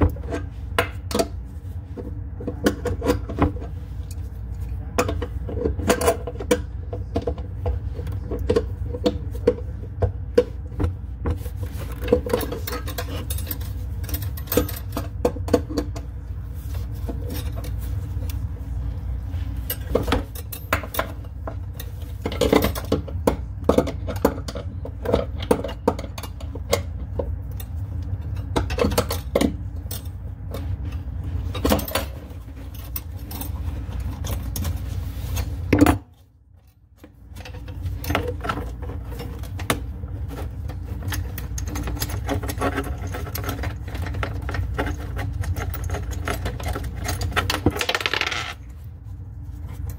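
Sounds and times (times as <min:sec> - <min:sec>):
tools and parts clinking: 0:02.0 - 0:16.2, 0:19.4 - 0:48.8.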